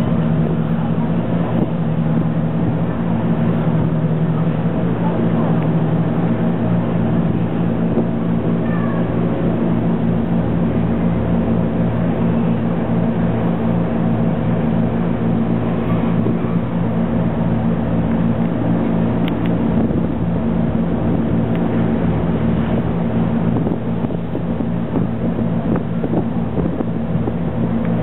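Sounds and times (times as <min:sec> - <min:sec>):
ship engine drone: 0:00.0 - 0:28.0
wind and water rushing: 0:00.0 - 0:28.0.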